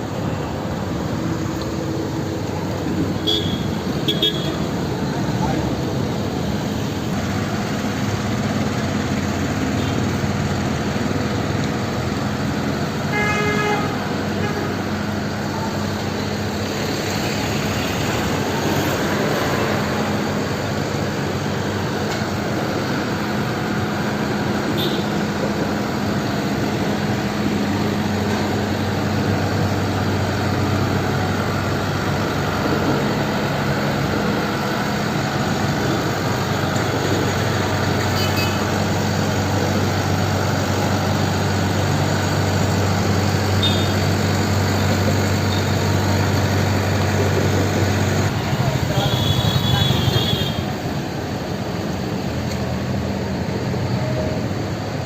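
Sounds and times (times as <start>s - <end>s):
motorcycle engine humming: 0.0s - 55.0s
road and wind noise: 0.0s - 55.0s
surrounding traffic: 0.0s - 55.0s.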